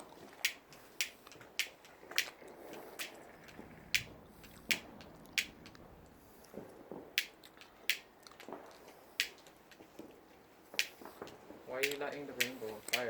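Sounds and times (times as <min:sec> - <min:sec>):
small fire crackling: 0:00.0 - 0:13.0.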